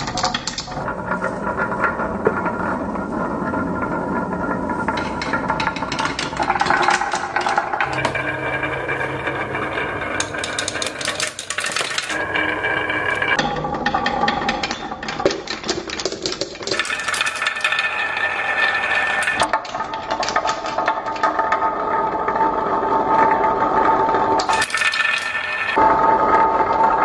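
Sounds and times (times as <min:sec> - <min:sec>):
marbles clicking and knocking: 0:00.0 - 0:00.9, 0:04.8 - 0:25.8
marbles rolling hum: 0:00.0 - 0:27.0.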